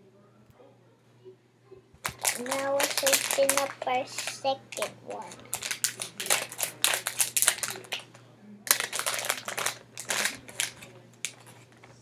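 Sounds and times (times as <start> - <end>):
packaging crackling and rustling: 2.0 - 12.0
scissors cutting foil packet: 2.0 - 12.0.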